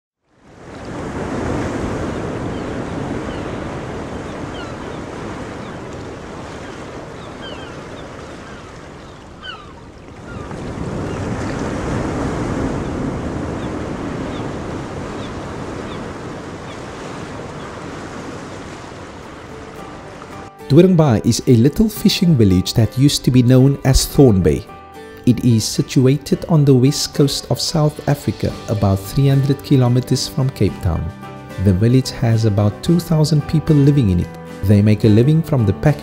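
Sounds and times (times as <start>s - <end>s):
ocean waves breaking: 0.3s - 36.0s.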